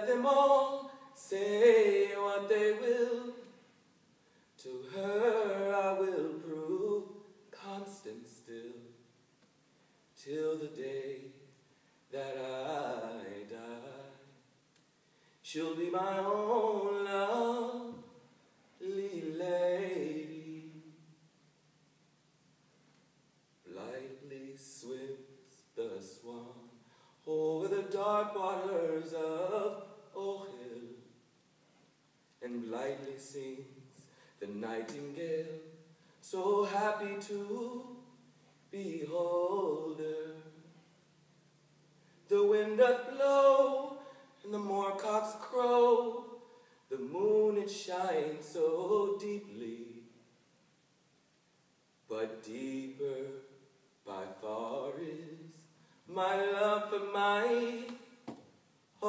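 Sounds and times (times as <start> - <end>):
man singing unaccompanied: 0.0 - 3.7, 4.6 - 9.1, 10.2 - 14.4, 15.4 - 21.2, 23.6 - 31.2, 32.4 - 40.8, 42.2 - 50.3, 52.0 - 59.0.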